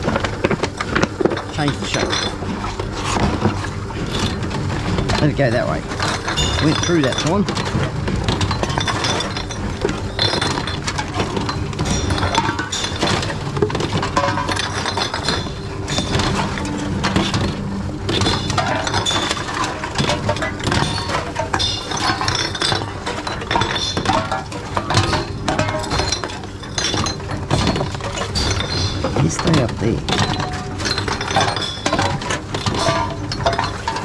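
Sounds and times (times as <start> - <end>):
bottles and cans clinking: 0.0 - 34.0.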